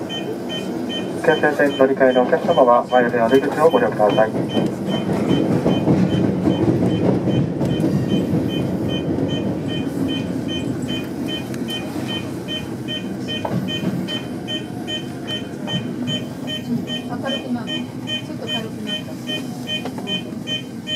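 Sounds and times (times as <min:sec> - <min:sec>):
train rumbling in tunnel: 0:00.0 - 0:20.9.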